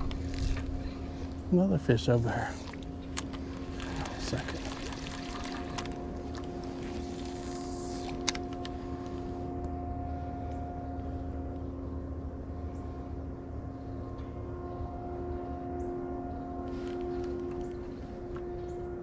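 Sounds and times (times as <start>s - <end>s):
small boat motor humming: 0.0s - 19.0s.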